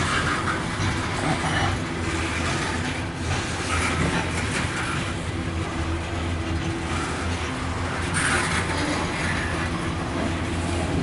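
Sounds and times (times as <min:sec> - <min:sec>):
train cars rolling on rails: 0:00.0 - 0:11.0.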